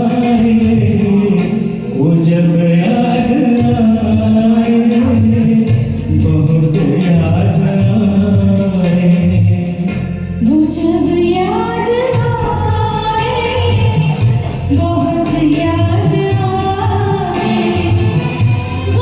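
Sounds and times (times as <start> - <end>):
person singing over karaoke track: 0.0 - 19.0.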